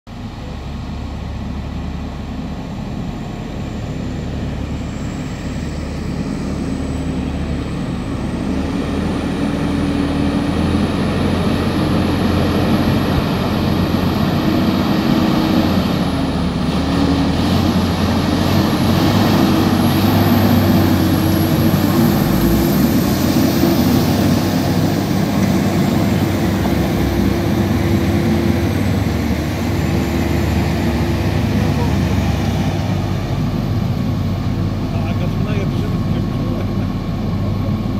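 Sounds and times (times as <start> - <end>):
diesel truck engine labouring: 0.1 - 37.9
high whine: 0.1 - 37.9.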